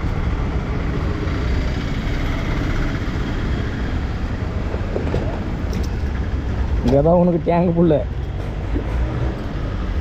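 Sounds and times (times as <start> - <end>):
vehicle rumble and hiss: 0.0 - 10.0.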